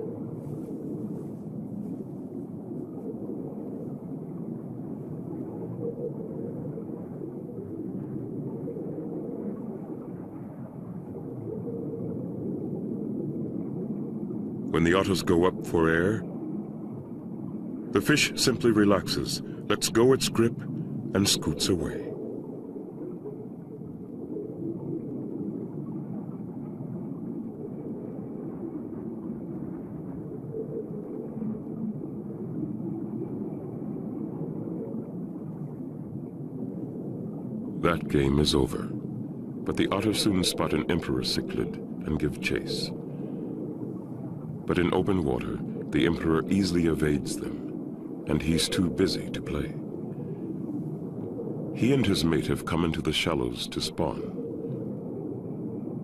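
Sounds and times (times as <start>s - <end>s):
muffled underwater rumble: 0.0s - 56.0s.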